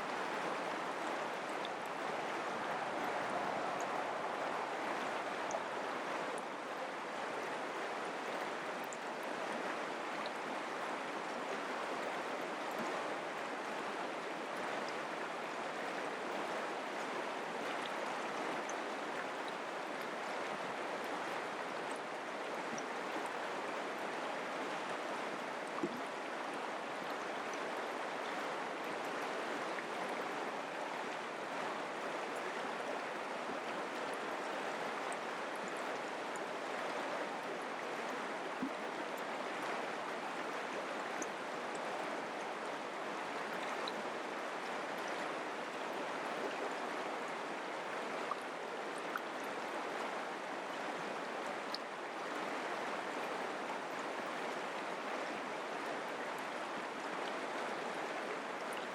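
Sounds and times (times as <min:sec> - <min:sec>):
creek flowing over rocks: 0:00.0 - 0:58.9
faint water splashes: 0:00.0 - 0:58.9.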